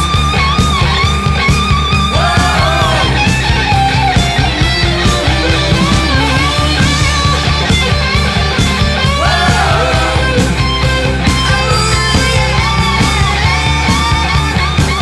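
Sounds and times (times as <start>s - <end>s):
rock music with guitar: 0.0s - 15.0s
steady drum beat: 0.1s - 15.0s.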